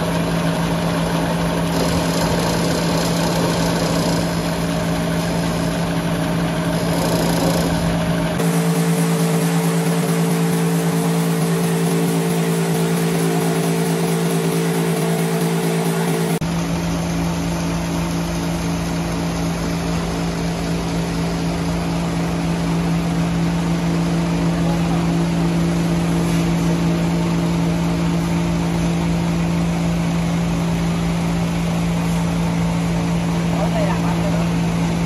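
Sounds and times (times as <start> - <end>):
heavy machinery humming: 0.0 - 35.0.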